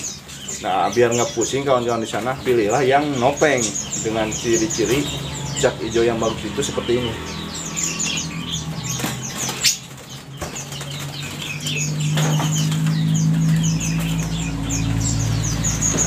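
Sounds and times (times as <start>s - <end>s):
songbirds chirping and twittering: 0.0s - 16.0s.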